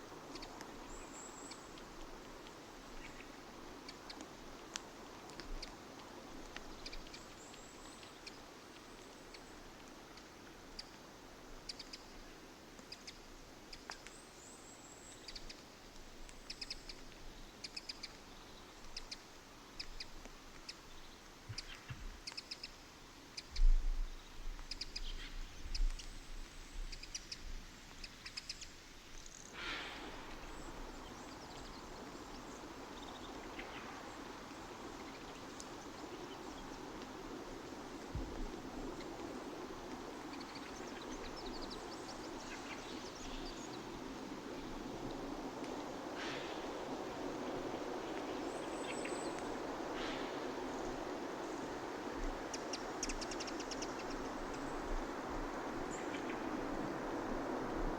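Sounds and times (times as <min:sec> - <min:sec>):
small birds chirping: 0:00.0 - 0:57.1.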